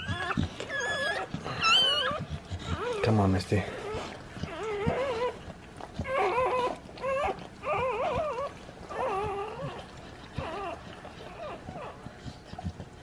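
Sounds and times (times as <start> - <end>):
newborn puppies crying: 0.0 - 12.8.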